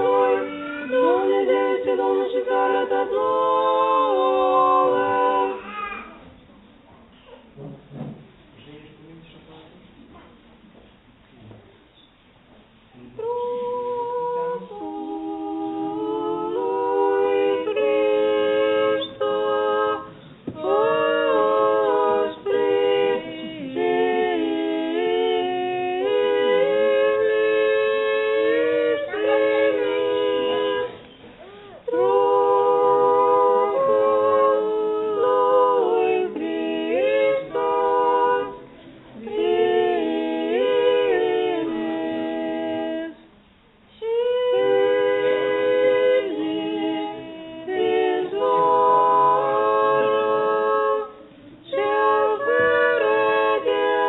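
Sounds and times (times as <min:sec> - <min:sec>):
choir chanting a cappella: 0:00.0 - 0:06.1, 0:13.0 - 0:43.3, 0:43.9 - 0:54.0.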